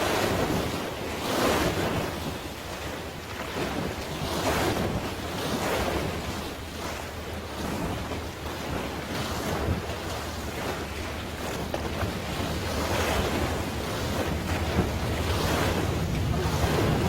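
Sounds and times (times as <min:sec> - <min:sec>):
sea water splashing: 0:00.0 - 0:17.0
wind rumbling on microphone: 0:00.0 - 0:17.0.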